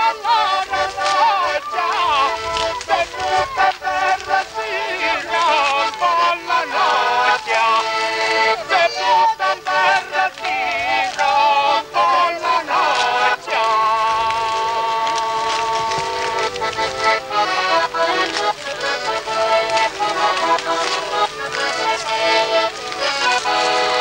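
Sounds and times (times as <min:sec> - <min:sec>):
piano accordion playing: 0:00.0 - 0:24.0
voices singing along: 0:00.0 - 0:24.0.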